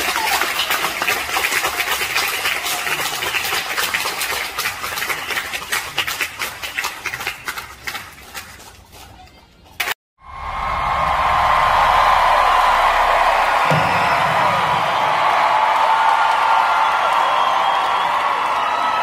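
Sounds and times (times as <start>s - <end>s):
audience applauding: 0.0s - 8.6s, 10.3s - 19.0s.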